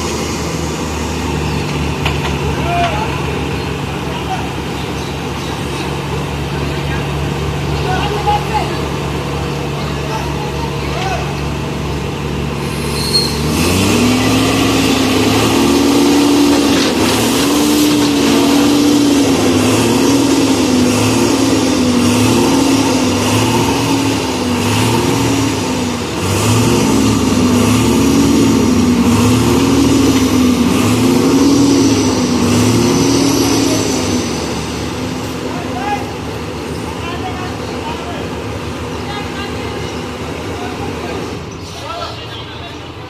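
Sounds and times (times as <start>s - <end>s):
heavy diesel engine working: 0.0s - 43.0s.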